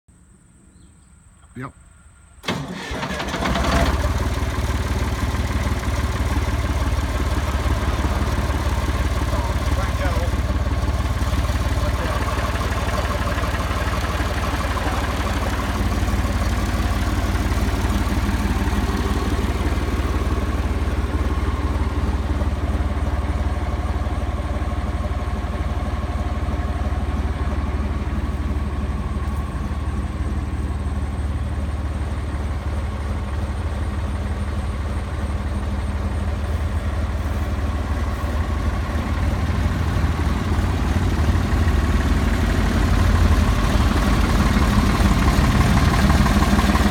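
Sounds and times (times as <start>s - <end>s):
bulldozer engine running: 2.1s - 46.9s.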